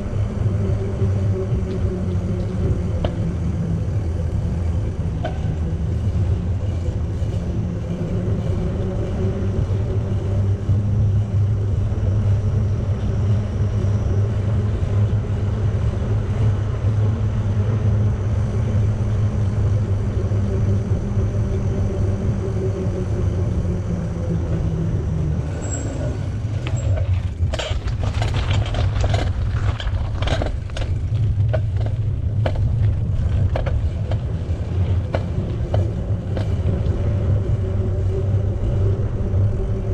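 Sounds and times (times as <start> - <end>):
bicycle tyre noise: 0.0 - 39.9
wind rumble on microphone: 0.0 - 39.9.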